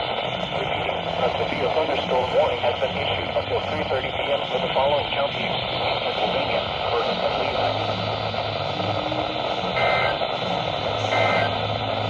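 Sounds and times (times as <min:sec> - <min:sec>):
radio static hiss: 0:00.0 - 0:12.0
warbling data bursts: 0:00.4 - 0:12.0.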